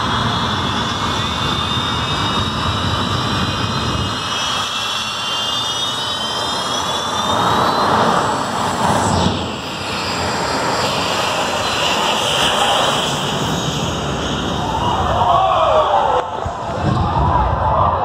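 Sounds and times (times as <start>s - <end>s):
jet engine roar with high whine: 0.0s - 18.0s.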